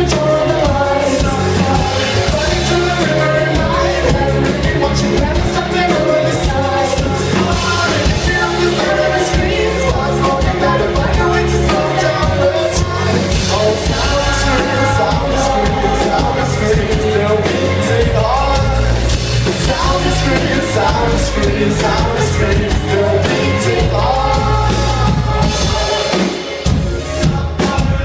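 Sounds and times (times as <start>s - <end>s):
heavy drumming: 0.0s - 28.0s
live rock band playing: 0.0s - 28.0s
person singing: 0.0s - 28.0s.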